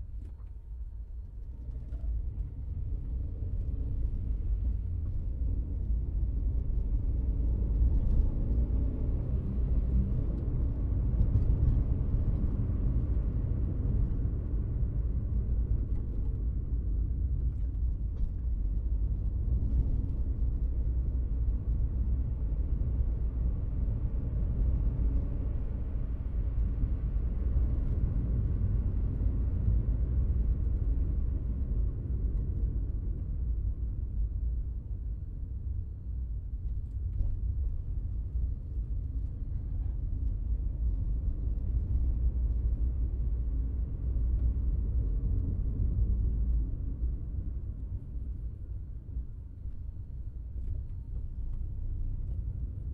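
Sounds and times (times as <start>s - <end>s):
car interior rumble: 0.0s - 52.9s.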